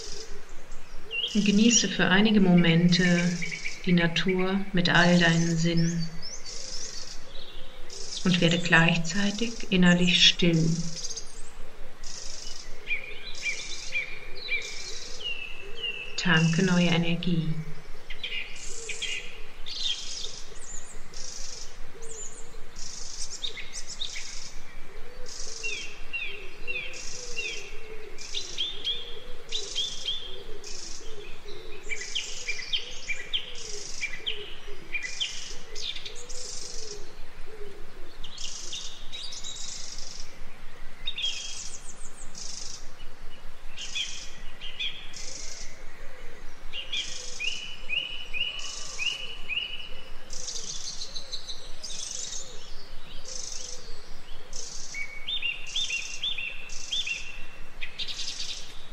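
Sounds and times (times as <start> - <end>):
birds chirping and trilling: 0.0 - 58.9.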